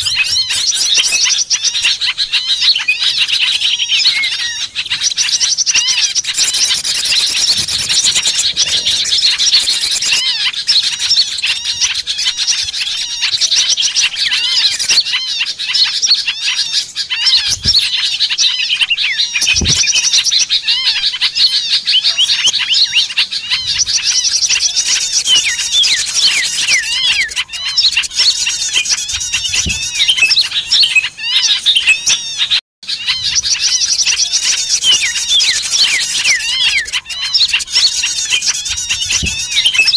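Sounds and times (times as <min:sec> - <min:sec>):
songbirds chattering and calling: 0:00.0 - 0:39.9.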